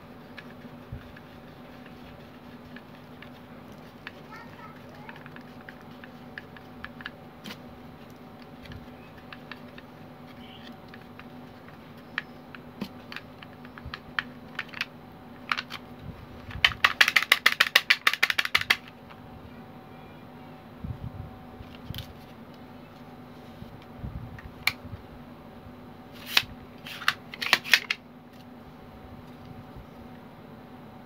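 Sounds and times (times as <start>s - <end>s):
steady low hum: 0.0s - 17.0s, 18.4s - 31.0s.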